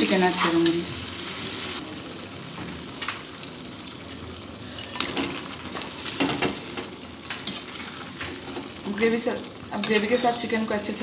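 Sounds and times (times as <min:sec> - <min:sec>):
gravy sizzling in a wok: 0:00.0 - 0:11.0.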